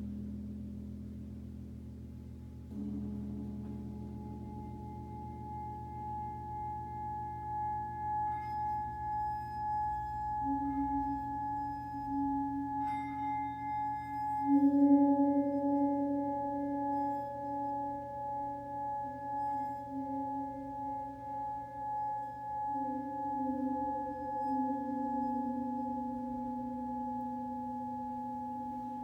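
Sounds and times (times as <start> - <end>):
deep wavering tone: 0.0 - 29.0
singing bowls ringing: 2.7 - 29.0.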